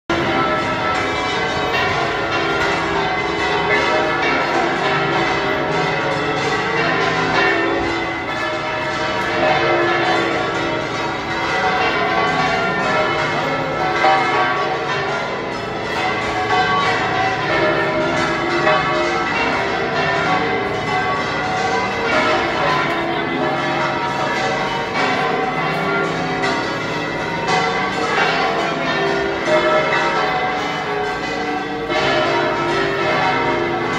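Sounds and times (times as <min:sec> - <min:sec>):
church bells pealing: 0:00.1 - 0:33.9.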